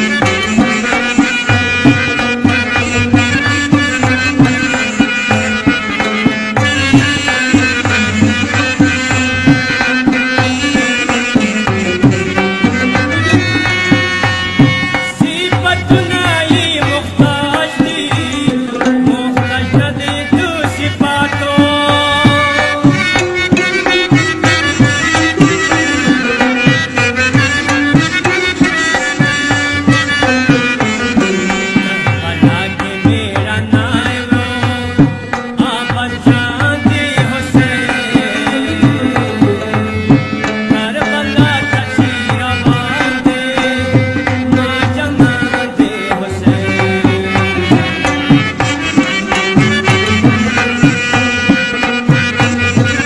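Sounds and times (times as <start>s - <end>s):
pitched melody line: 0.0s - 53.0s
rhythmic drum beat: 0.0s - 53.0s.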